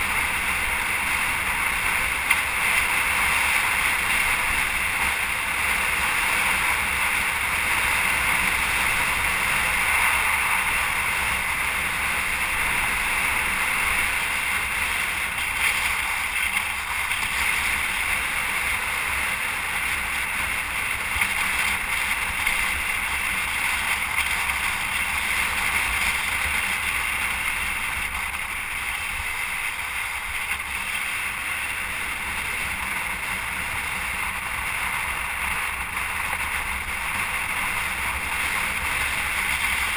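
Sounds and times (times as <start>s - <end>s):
rushing wind: 0.0s - 39.9s.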